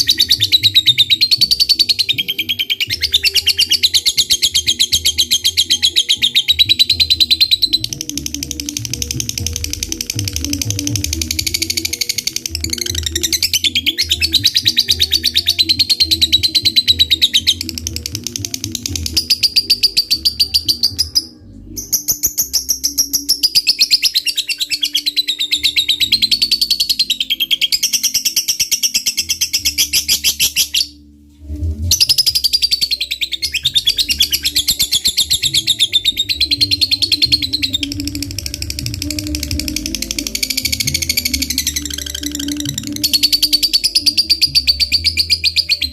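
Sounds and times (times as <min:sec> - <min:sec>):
lovebird chattering trill: 0:00.0 - 0:31.0, 0:31.9 - 0:45.9.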